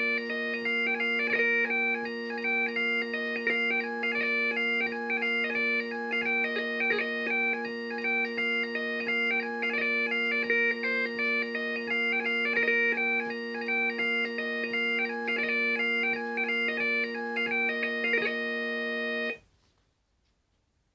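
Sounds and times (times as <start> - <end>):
bagpipes playing a hornpipe: 0.0 - 19.4.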